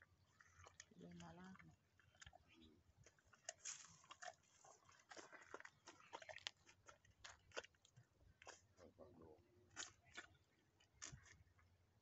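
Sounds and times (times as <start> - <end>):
animal chewing: 0.0 - 8.9, 9.6 - 11.8.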